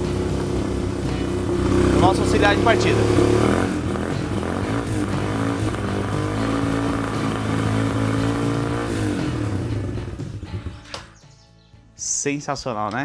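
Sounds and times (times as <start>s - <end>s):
quad bike engine running: 0.0s - 10.9s.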